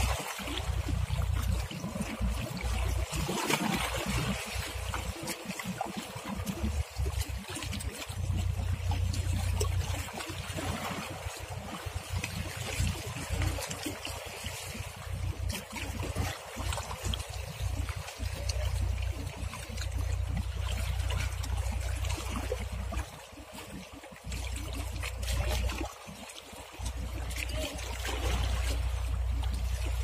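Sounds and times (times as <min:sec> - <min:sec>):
water splashing and lapping: 0:00.0 - 0:30.0.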